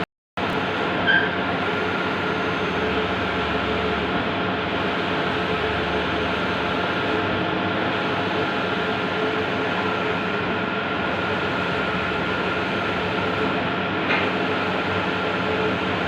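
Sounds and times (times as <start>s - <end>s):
printing machine whirring: 0.4s - 16.0s.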